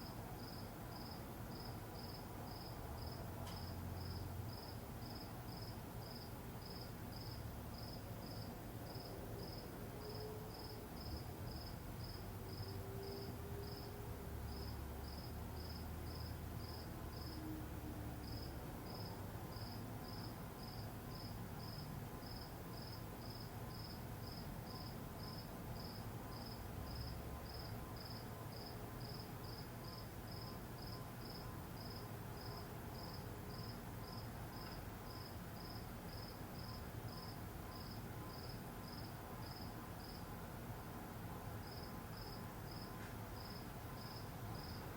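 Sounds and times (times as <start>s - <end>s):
cricket chirping: 0.0s - 17.5s, 18.2s - 40.2s, 41.6s - 44.9s.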